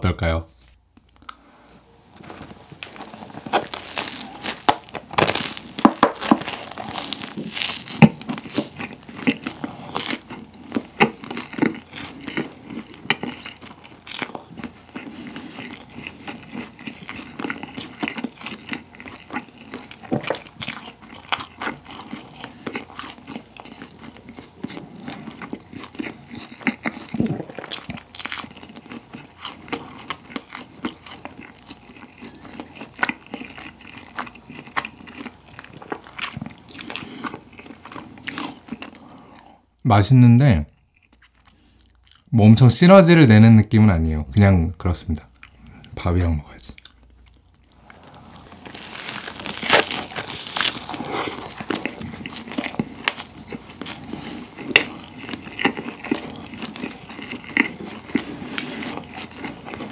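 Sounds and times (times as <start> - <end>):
crunching crusty bread: 2.2 - 39.3, 46.8 - 59.9.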